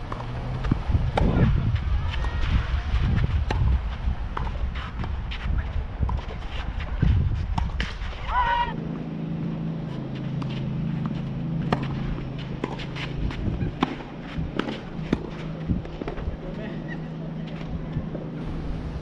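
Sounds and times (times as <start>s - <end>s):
tennis balls struck by rackets: 0.0s - 8.3s, 9.4s - 16.5s
steady low hum: 0.0s - 19.0s.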